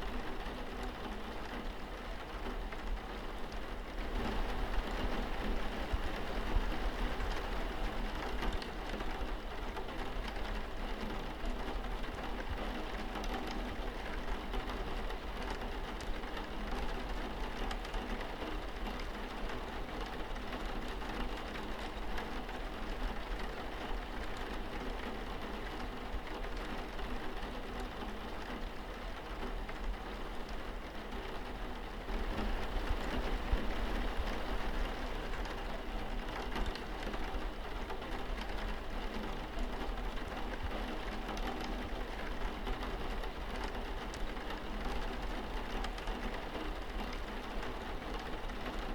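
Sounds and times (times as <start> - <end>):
rain pattering on a window: 0.0 - 48.9.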